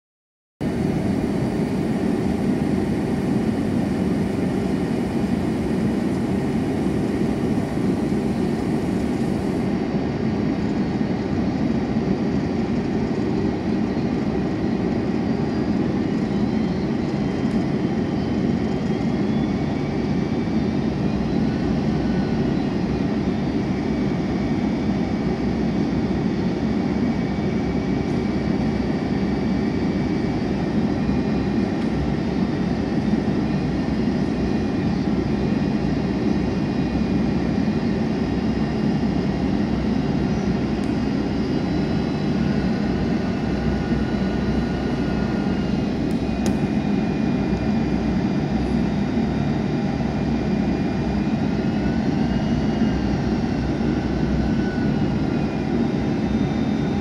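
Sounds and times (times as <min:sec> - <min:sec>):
airplane cabin engine roar: 0:00.6 - 0:57.0
faint high whine: 0:00.7 - 0:09.9, 0:13.6 - 0:57.0.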